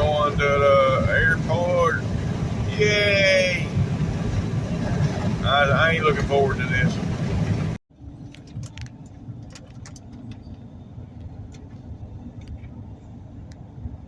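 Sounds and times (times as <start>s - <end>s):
vehicle road rumble: 0.0s - 14.0s.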